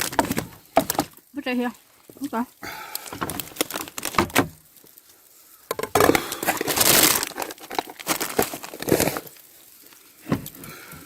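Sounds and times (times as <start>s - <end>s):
crinkling and rustling handling: 0.0s - 11.0s.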